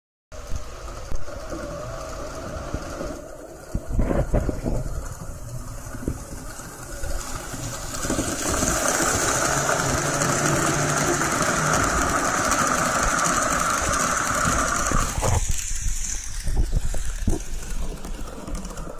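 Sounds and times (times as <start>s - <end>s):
model train whirring: 0.4s - 18.9s.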